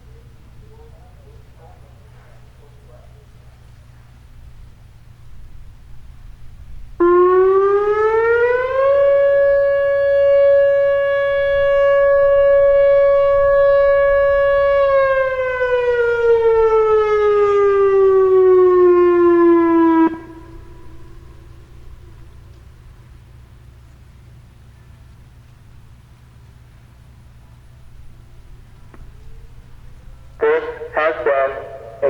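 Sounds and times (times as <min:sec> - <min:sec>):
outdoor warning siren: 0:03.2 - 0:25.0, 0:25.8 - 0:32.0.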